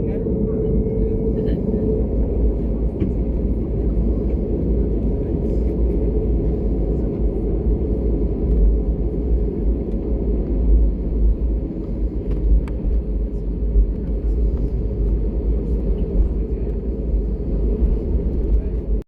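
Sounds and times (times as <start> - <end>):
airplane engines and airflow rumble: 0.0 - 19.0.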